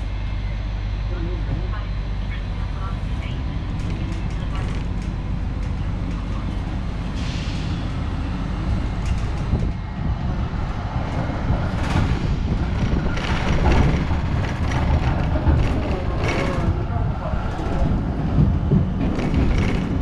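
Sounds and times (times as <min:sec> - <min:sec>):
tram clattering and rattling: 0:00.0 - 0:20.0
tram rumbling along street: 0:00.0 - 0:20.0.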